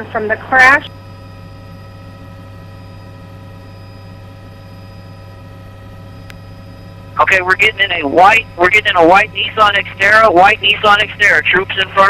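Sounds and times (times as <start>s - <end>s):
helicopter cabin drone: 0.0s - 12.0s
whining tones: 0.5s - 12.0s.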